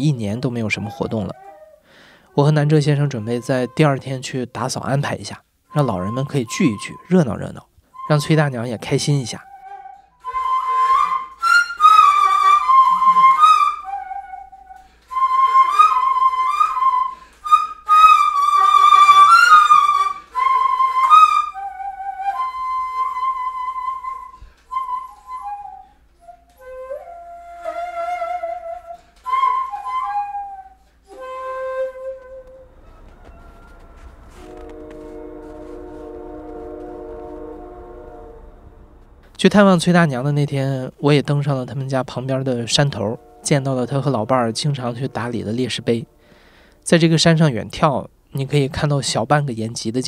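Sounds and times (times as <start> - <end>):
solo flute melody: 0.0 - 4.8, 5.6 - 40.3, 40.9 - 46.8.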